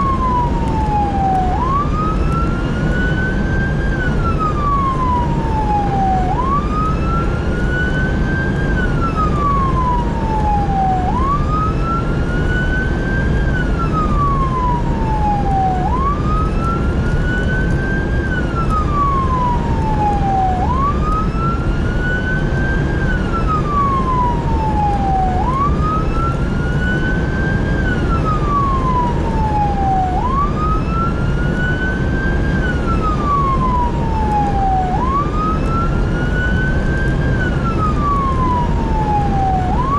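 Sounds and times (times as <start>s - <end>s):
fire engine siren wailing: 0.0s - 39.9s
heavy engine and road rumble: 0.0s - 39.9s.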